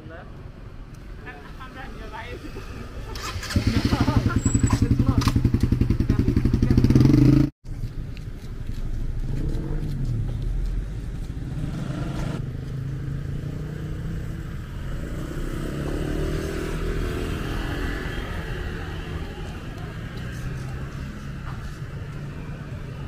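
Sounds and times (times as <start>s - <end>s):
motorbike and car engines passing: 1.3s - 7.5s, 8.9s - 23.0s.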